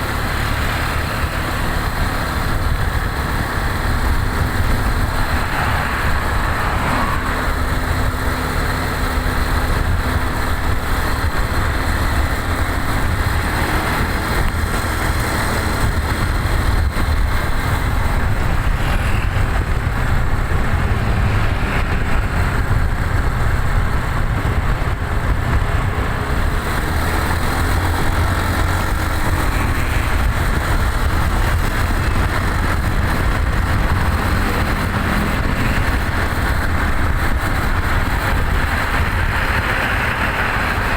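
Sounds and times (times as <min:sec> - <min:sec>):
road noise: 0:00.0 - 0:40.9
vehicle engine rumbling: 0:00.0 - 0:40.9.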